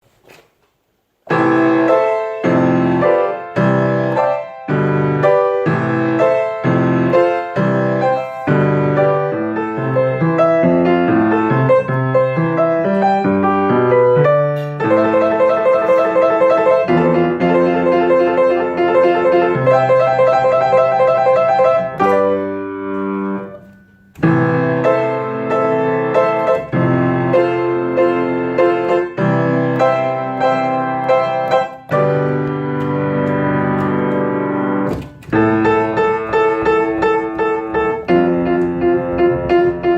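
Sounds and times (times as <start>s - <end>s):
solo piano: 1.1s - 39.9s.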